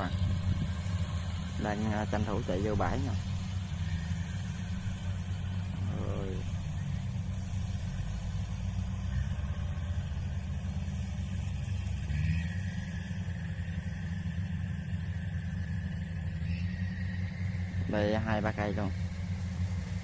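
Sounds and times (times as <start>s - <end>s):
engine low rumble: 0.0s - 20.0s.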